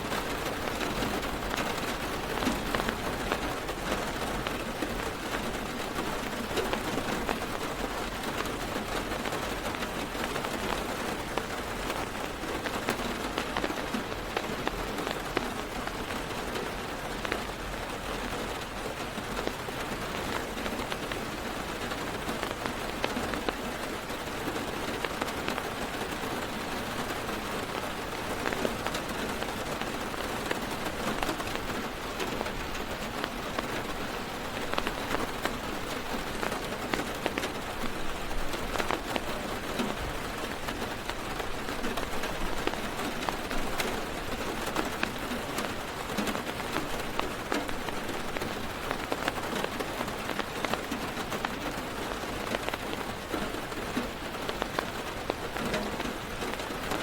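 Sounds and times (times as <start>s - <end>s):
rain drumming on car roof: 0.0s - 57.0s.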